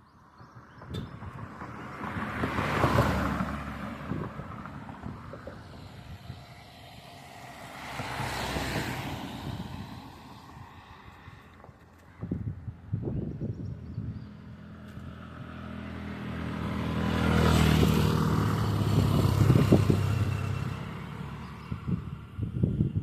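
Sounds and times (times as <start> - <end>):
passing traffic: 0.0 - 23.0.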